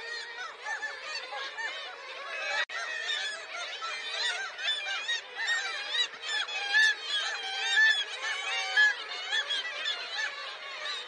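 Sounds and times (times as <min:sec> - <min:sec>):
seabirds calling: 0:00.0 - 0:11.0.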